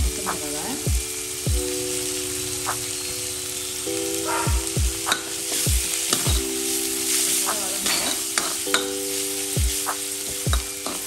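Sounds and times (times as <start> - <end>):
background music with low chords: 0.0 - 11.0
vegetables sizzling in hot oil: 0.1 - 11.0.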